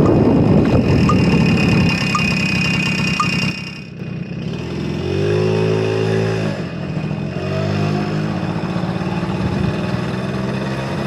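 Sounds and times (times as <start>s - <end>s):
scooter engine accelerating: 0.0s - 11.0s.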